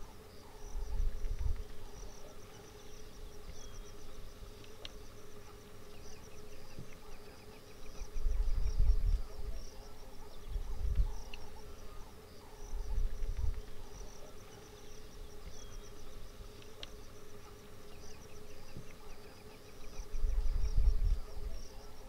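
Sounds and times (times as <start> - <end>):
insects chirring: 0.0 - 22.0
steady low hum: 0.0 - 22.0.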